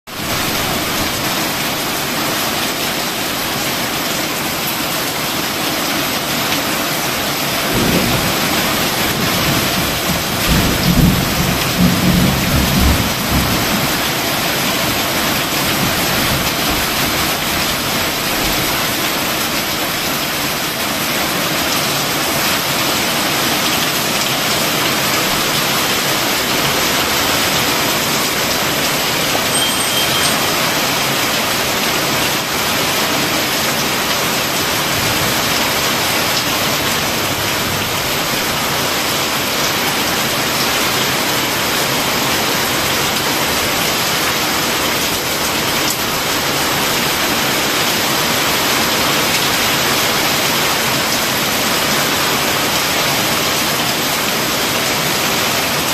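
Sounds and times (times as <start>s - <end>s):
torrential rain: 0.1s - 55.9s.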